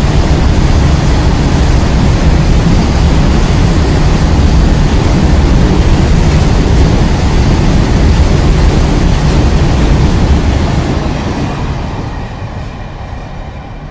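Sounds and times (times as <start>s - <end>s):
freight train rolling past: 0.0s - 13.9s.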